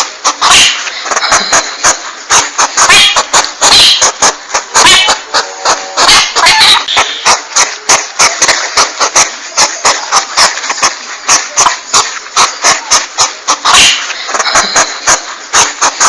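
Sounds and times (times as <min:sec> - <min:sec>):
porcupine calls: 0:00.2 - 0:08.8, 0:11.3 - 0:16.0.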